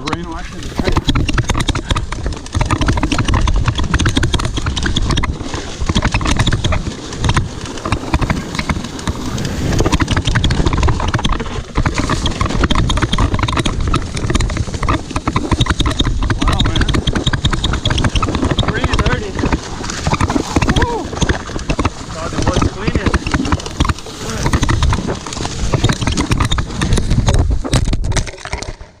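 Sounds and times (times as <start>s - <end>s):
bike rattling over rough trail: 0.0s - 29.0s
wind and ground rumble: 0.0s - 29.0s.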